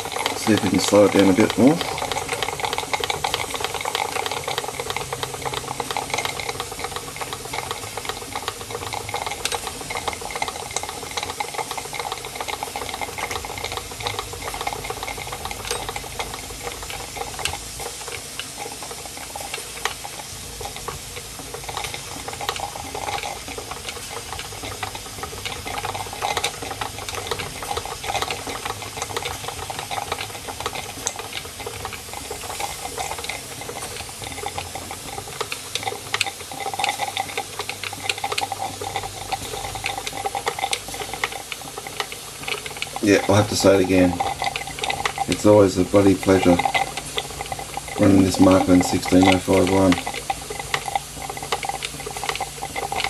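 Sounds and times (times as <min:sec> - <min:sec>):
model steam engine rattling: 0:00.0 - 0:53.0
steam hissing: 0:00.0 - 0:53.0.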